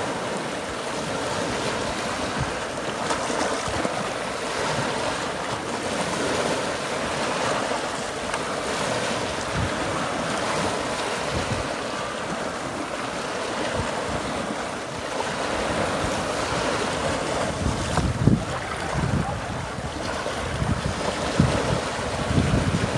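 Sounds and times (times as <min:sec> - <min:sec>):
wave splash: 0:00.0 - 0:22.9
waves washing onto rocks: 0:00.0 - 0:22.9.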